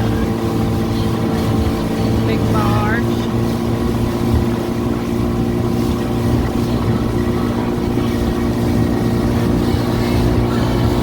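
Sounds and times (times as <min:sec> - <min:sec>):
motorboat engine droning: 0:00.0 - 0:11.0
water rushing: 0:00.0 - 0:11.0.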